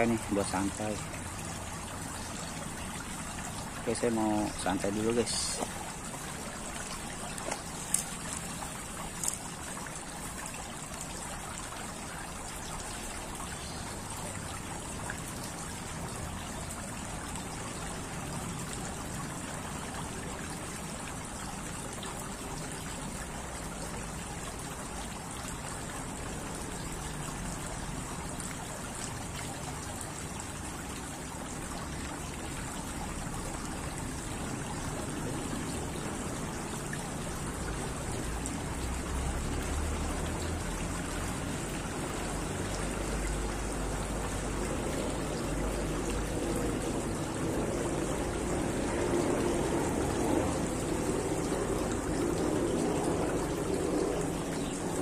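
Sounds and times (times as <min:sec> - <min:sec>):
fountain water trickling: 0:00.0 - 0:55.0.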